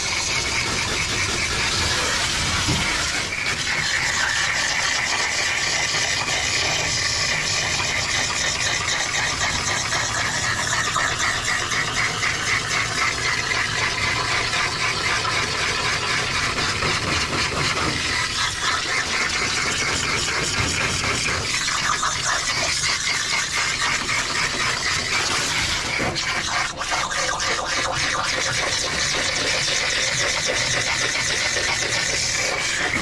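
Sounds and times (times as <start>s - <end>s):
hose spraying water on dog: 0.0s - 33.0s.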